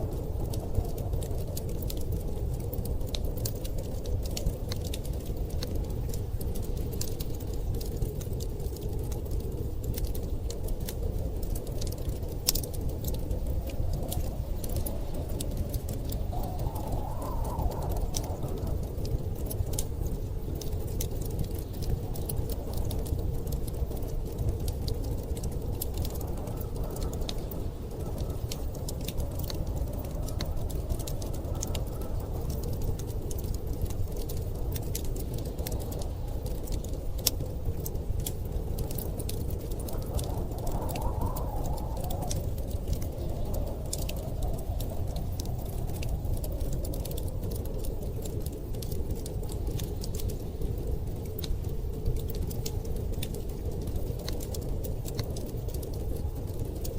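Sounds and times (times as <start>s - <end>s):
storm wind rumbling: 0.0s - 56.9s
wind gust howling: 0.0s - 56.9s
wood fire crackling and popping: 0.0s - 56.9s.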